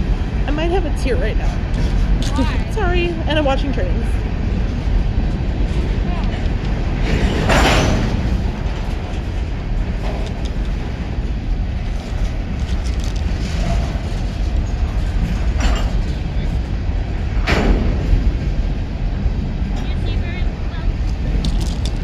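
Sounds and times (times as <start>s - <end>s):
freight train rolling past: 0.0s - 22.0s
wheels clattering on rails: 0.0s - 22.0s.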